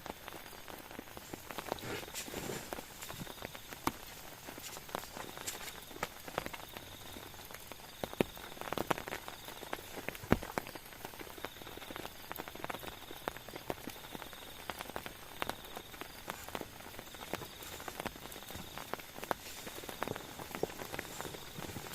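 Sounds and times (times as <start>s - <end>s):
rain hiss: 0.0s - 21.9s
raindrops dripping: 0.0s - 21.9s.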